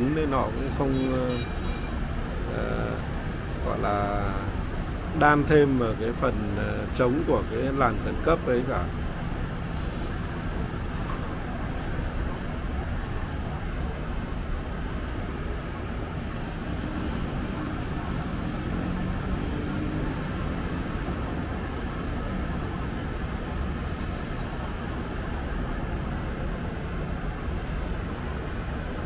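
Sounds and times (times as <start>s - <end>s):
distant road traffic hum: 0.0s - 29.0s.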